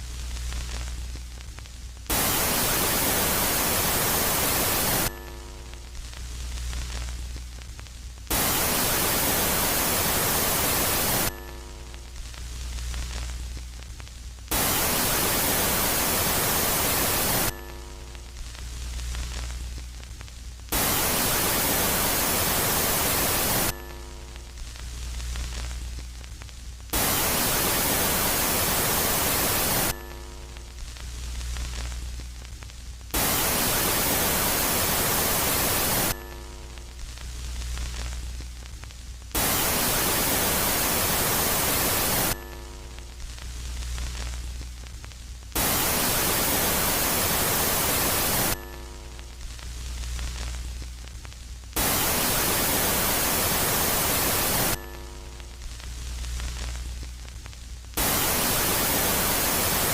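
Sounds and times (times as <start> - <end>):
loud static hiss: 0.0 - 59.9
low hum with faint tones: 0.0 - 59.9.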